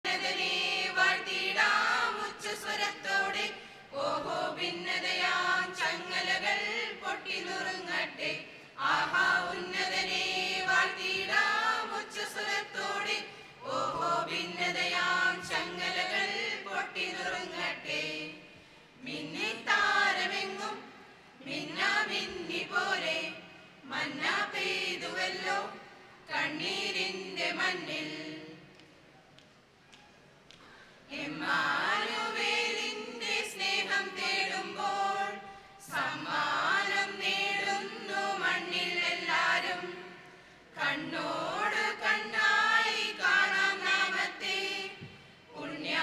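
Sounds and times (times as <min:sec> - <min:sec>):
mixed choir singing a carol: 0:00.0 - 0:28.8, 0:31.1 - 0:46.0.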